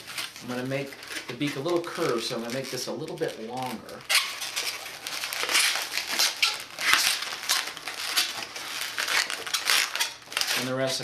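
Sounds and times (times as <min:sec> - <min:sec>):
rubber balloon rubbing and crinkling: 0:00.0 - 0:11.0.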